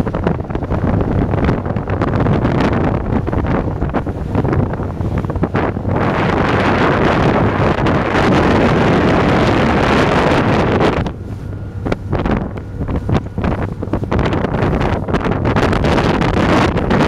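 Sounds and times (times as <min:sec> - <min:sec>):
boat motor humming: 0:00.0 - 0:17.0
wind buffeting microphone: 0:00.0 - 0:17.0.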